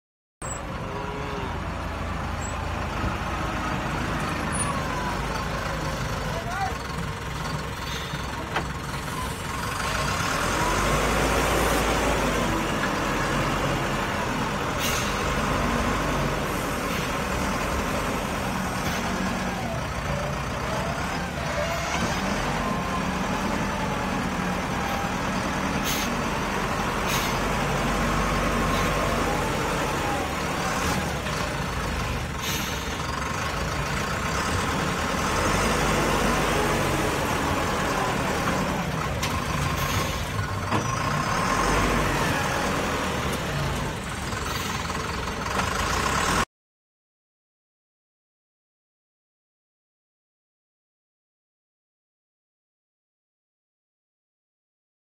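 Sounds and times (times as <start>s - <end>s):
diesel engine running under load: 0.4s - 46.5s.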